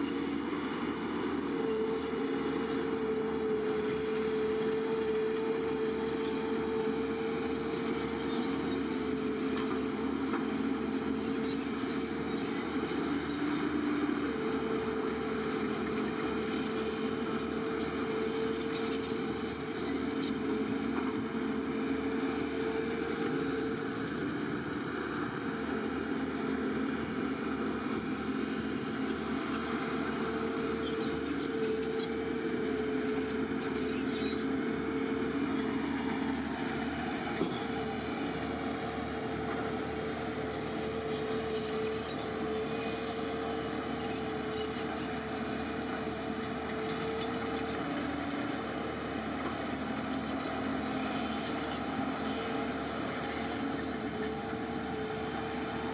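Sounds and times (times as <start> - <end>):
bulldozer engine running: 0.0 - 55.9.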